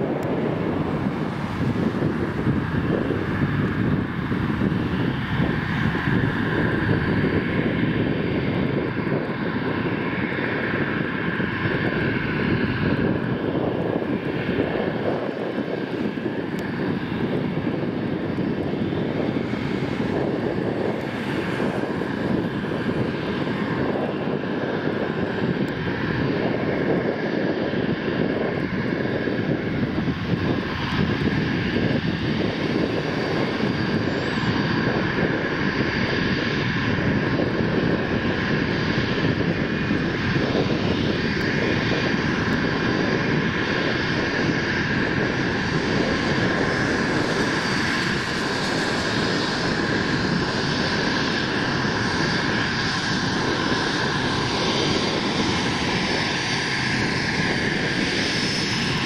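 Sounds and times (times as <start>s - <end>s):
jet engines at taxi power: 0.0s - 59.0s.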